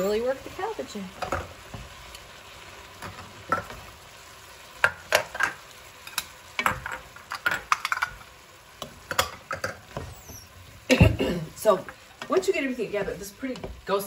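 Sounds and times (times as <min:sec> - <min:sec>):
faint sizzle of frying: 0:00.0 - 0:14.0.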